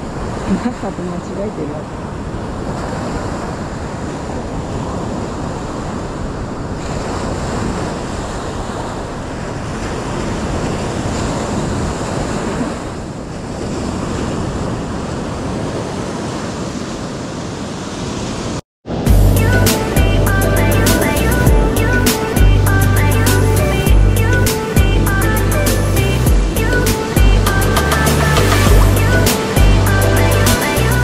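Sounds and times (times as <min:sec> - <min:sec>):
surf breaking on beach: 0:00.0 - 0:23.8, 0:24.4 - 0:31.0.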